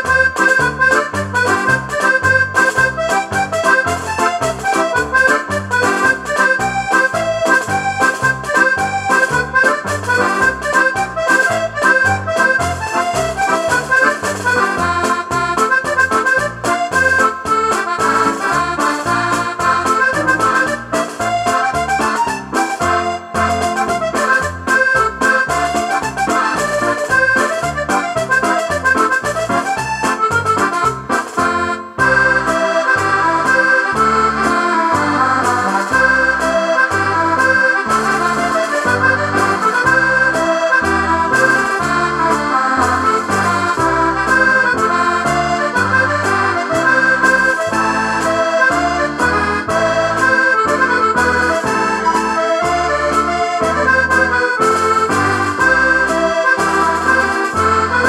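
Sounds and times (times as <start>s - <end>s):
accordion dance music: 0.0s - 58.0s
steady bass beat: 0.0s - 58.0s.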